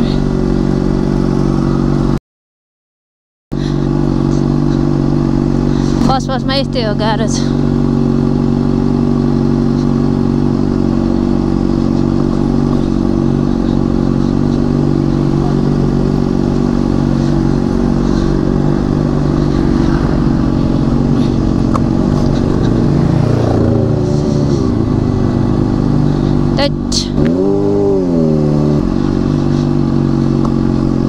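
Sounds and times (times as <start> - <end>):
motorcycle engine at low revs: 0.0 - 2.2, 3.5 - 31.0.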